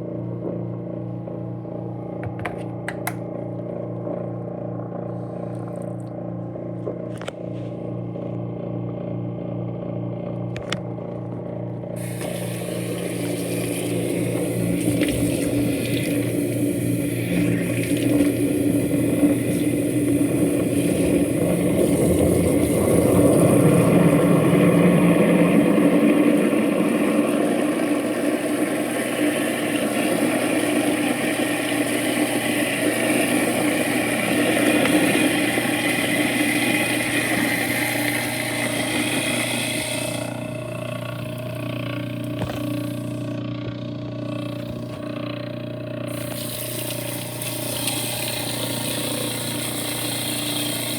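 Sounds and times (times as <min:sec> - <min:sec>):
garbage disposal motor humming: 0:00.0 - 0:50.9.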